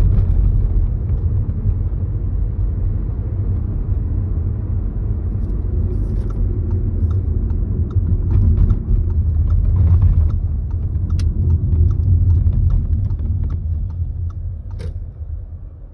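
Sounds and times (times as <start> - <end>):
road rumble inside car: 0.0 - 15.9.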